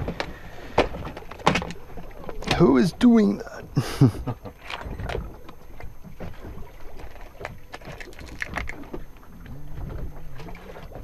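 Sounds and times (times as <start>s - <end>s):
light clicks and knocks on boat: 0.0s - 11.0s.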